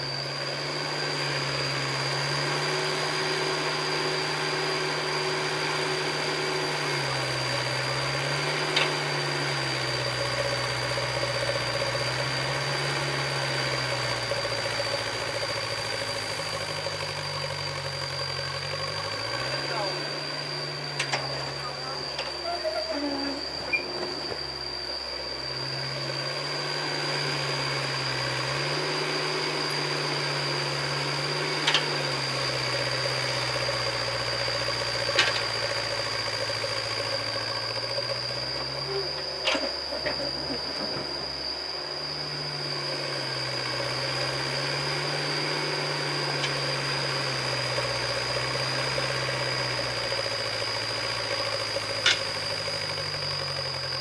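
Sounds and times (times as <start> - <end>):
excavator diesel engine under load: 0.0 - 54.0
high steady whine: 0.0 - 54.0.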